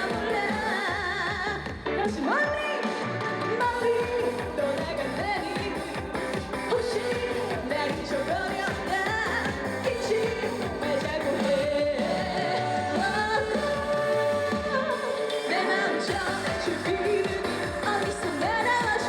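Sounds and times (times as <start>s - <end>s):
band accompaniment: 0.0s - 19.0s
person singing: 0.0s - 19.0s.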